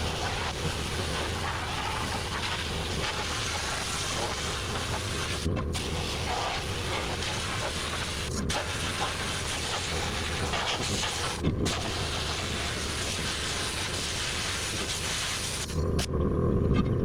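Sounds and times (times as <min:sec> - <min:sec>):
sandblaster hissing: 0:00.0 - 0:15.8.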